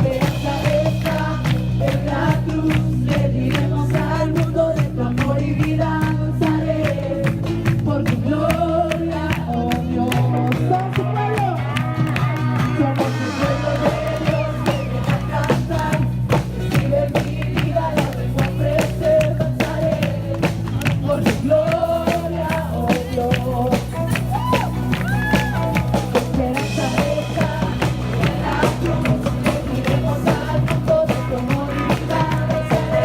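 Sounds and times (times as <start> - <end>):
person singing: 0.0 - 33.0
steady drumbeat: 0.0 - 33.0
sustained bass: 0.0 - 33.0.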